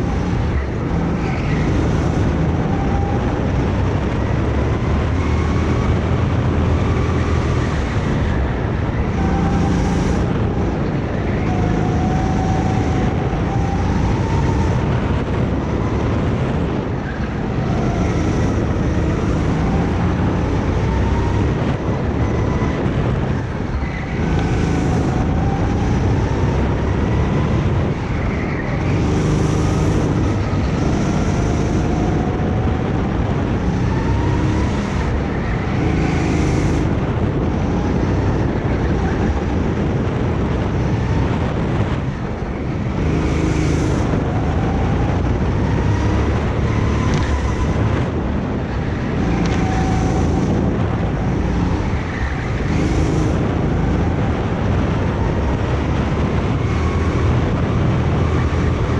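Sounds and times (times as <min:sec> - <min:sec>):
go-kart engine revving: 0:00.0 - 0:58.9
wind noise on microphone: 0:00.0 - 0:58.9.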